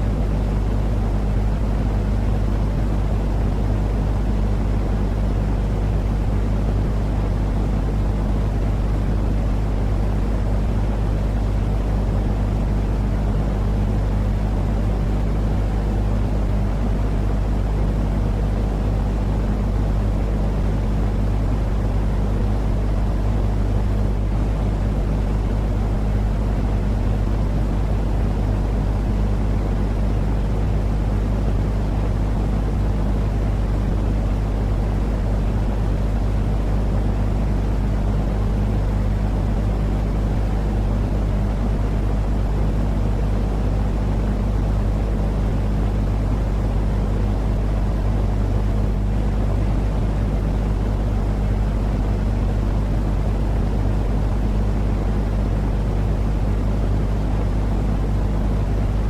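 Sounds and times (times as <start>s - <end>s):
constant hum: 0.0s - 59.0s
steady low rumbling white noise: 0.0s - 59.0s.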